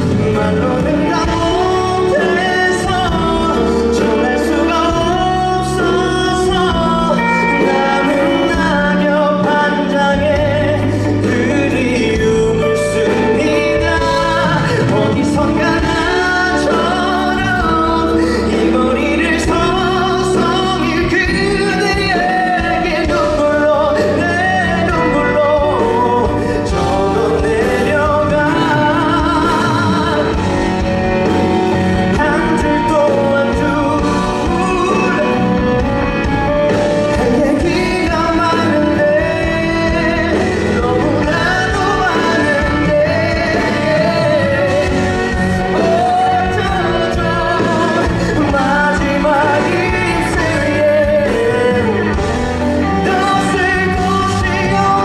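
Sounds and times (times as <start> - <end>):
instrumental accompaniment: 0.0 - 55.0
man singing live: 0.0 - 55.0.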